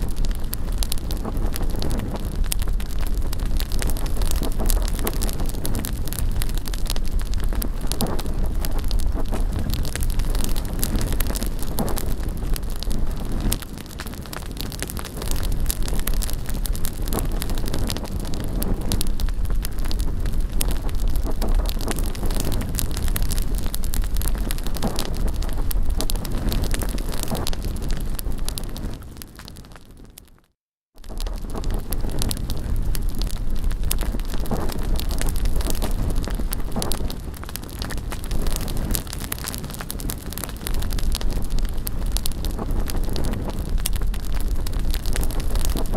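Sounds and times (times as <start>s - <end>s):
wind rumbling on microphone: 0.0s - 30.3s, 31.0s - 45.9s
wood bonfire crackling and popping: 0.0s - 45.9s.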